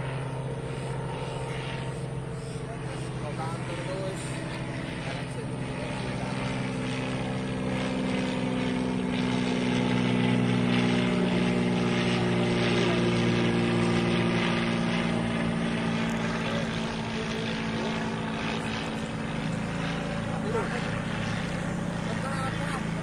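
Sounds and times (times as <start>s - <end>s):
propeller plane flying overhead: 0.0s - 23.0s.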